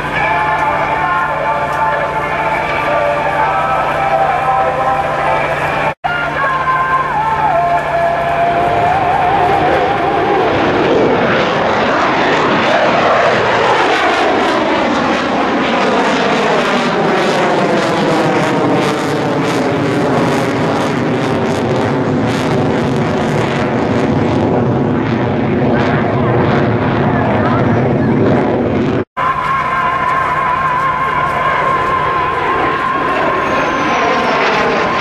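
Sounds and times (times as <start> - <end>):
jet engine flying past: 0.0 - 35.0.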